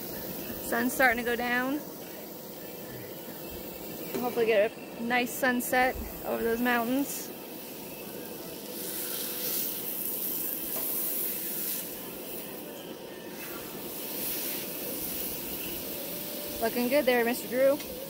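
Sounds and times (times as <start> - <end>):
steak sizzling in a pan: 0.0 - 18.0.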